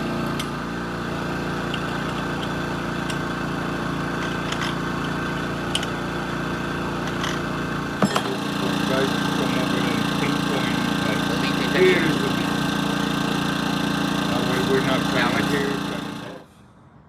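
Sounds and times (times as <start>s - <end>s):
engine running steadily: 0.0s - 16.7s.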